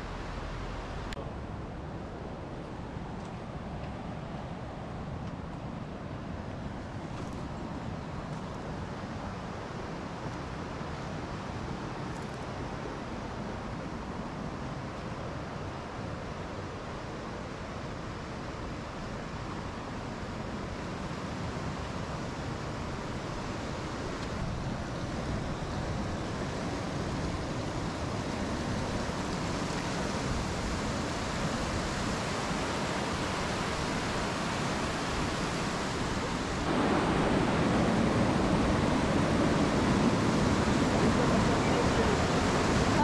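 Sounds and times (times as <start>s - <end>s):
river rushing over rocks: 0.0s - 43.0s.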